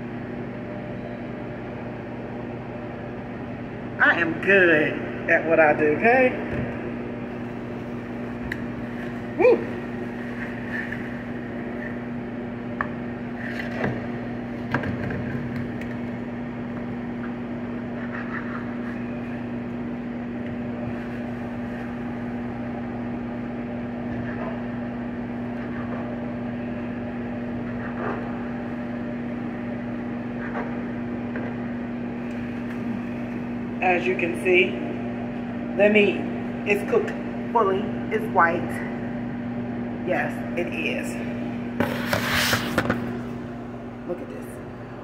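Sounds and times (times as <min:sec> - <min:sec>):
microwave oven humming: 0:00.0 - 0:45.0.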